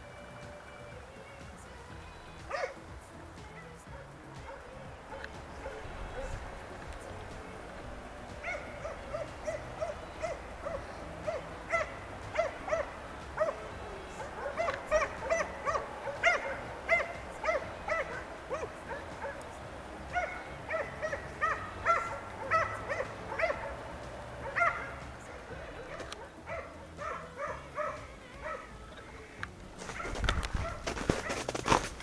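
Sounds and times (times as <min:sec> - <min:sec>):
hunting dog yelping barks: 0:02.4 - 0:02.8, 0:03.6 - 0:28.8, 0:29.8 - 0:31.5.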